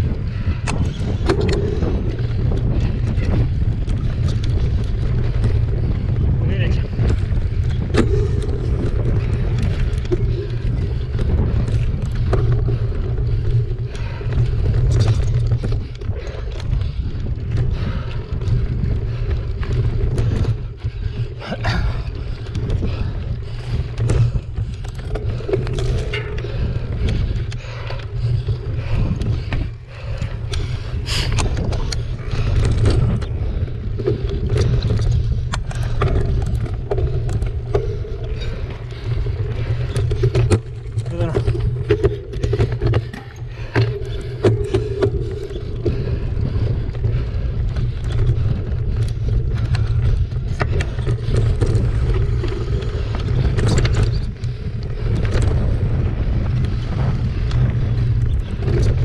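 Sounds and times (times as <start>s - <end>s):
bike rattling and knocking: 0.0s - 59.0s
bike tyres rumbling on dirt: 0.0s - 59.0s
wind on microphone: 0.0s - 59.0s.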